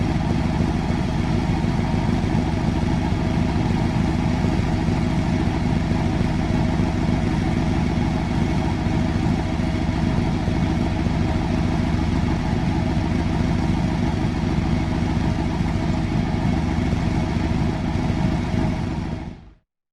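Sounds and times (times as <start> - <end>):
large engine idling: 0.0 - 19.6.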